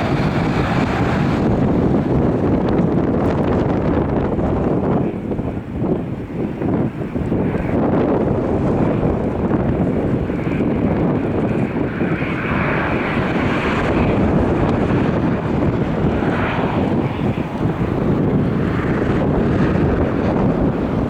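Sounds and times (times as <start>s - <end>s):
airliner engines rushing: 0.0s - 21.0s
wind buffeting microphone: 0.0s - 21.0s.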